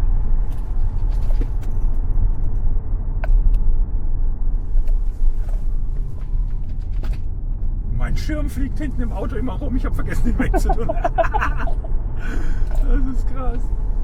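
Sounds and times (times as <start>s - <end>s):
tyre and wind noise in car: 0.0s - 14.0s.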